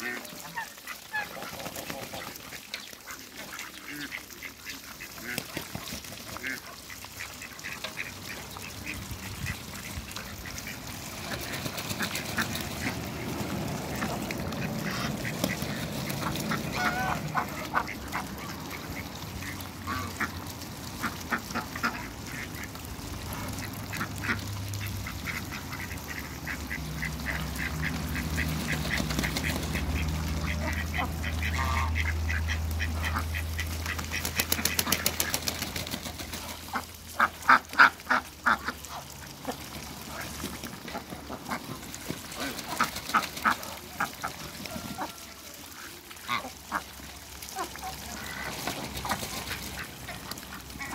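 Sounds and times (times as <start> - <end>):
ducks dabbling wet clicking: 0.0 - 50.9
ducks quacking: 0.0 - 50.9.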